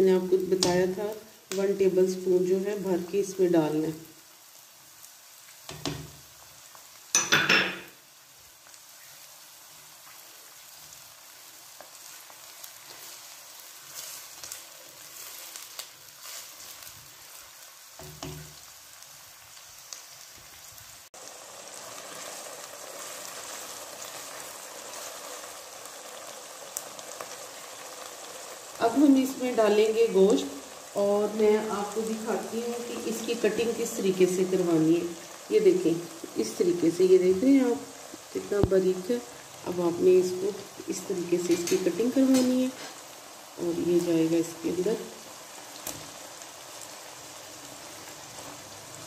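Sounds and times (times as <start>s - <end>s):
onions sizzling in hot oil: 0.0s - 49.0s.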